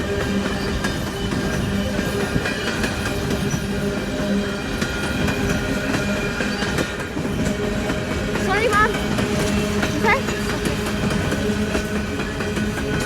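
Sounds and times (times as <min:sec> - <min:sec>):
freight cars rumbling on rails: 0:00.0 - 0:13.0.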